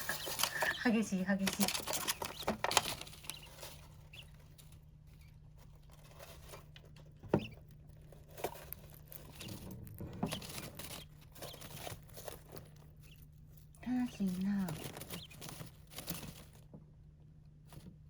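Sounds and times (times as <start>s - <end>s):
quail scratching in litter: 0.0s - 16.7s.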